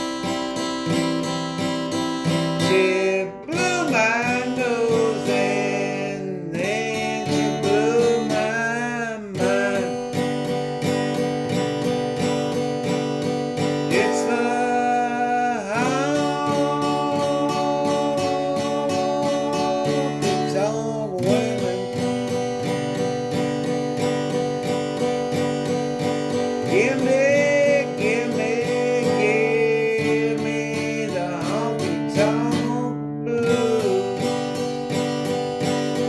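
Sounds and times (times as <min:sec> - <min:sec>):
acoustic guitar strumming: 0:00.0 - 0:36.0
person singing: 0:00.0 - 0:36.0.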